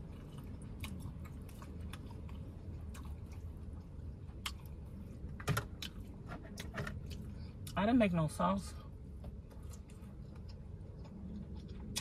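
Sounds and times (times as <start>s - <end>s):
chewing: 0.0s - 7.8s, 9.4s - 12.0s
low steady hum: 0.0s - 12.0s.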